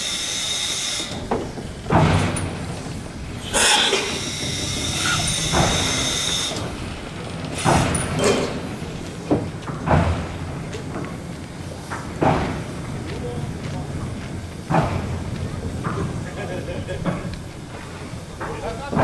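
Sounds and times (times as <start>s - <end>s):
heavy locomotive chuffs: 0.0s - 19.0s
steam hissing: 0.0s - 19.0s.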